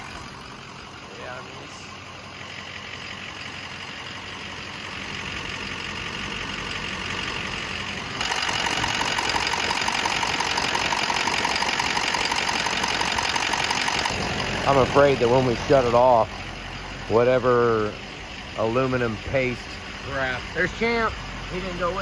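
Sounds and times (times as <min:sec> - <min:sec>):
truck engine idling with clatter: 0:00.0 - 0:22.0.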